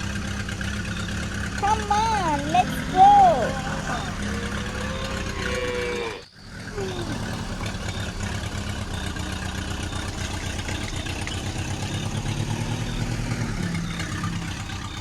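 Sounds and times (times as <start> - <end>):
vehicle engine chugging: 0.0 - 15.0.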